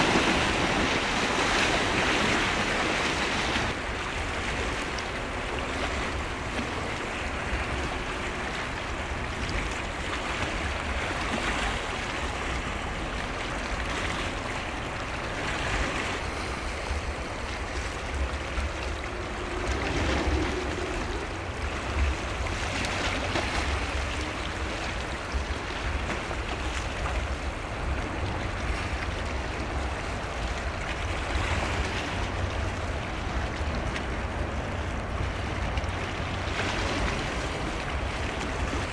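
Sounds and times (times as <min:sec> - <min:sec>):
waves washing: 0:00.0 - 0:38.9
wind buffeting microphone: 0:00.0 - 0:38.9.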